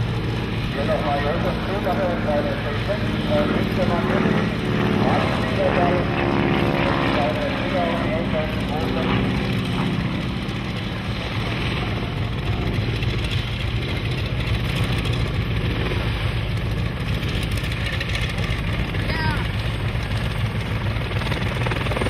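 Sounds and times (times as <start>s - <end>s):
aircraft radial engine idling: 0.0s - 22.0s.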